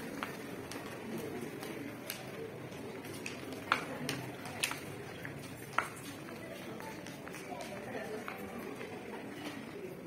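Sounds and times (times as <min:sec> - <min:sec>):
shoes clicking on marble floor: 0:00.0 - 0:09.9.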